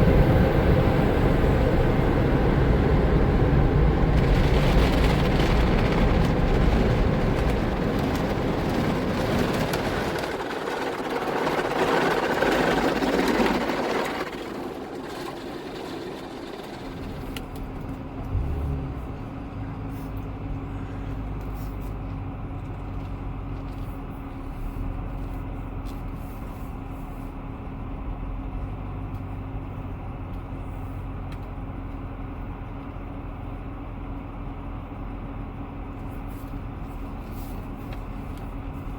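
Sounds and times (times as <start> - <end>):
low vehicle hum: 0.0 - 38.9.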